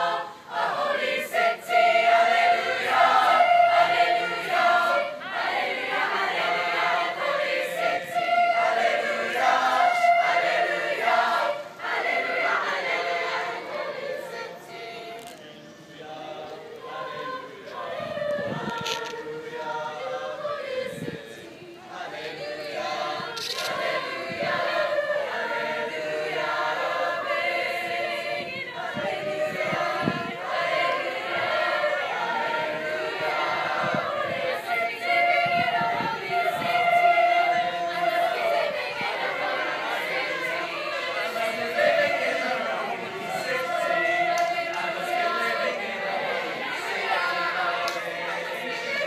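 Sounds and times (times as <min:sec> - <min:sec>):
youth choir singing: 0:00.0 - 0:49.0.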